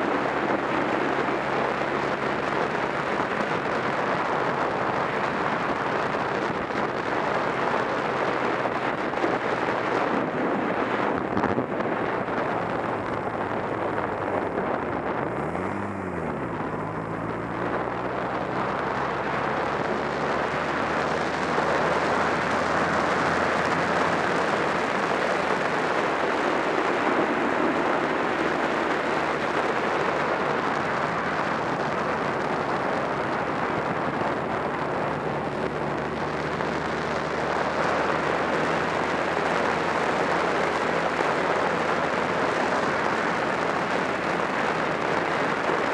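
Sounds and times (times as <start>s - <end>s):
motorcycle engine cruising: 0.0s - 45.9s
wind rush on microphone: 0.0s - 45.9s.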